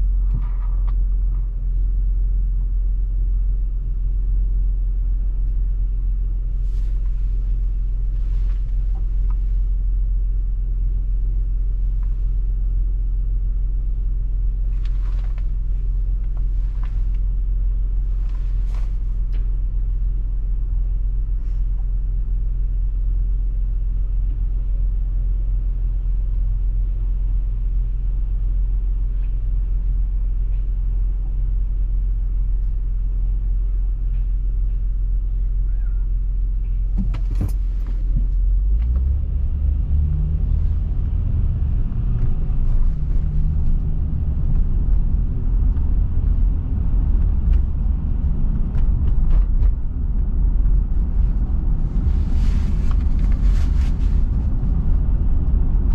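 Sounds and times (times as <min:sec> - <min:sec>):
car road rumble: 0:00.0 - 0:55.9.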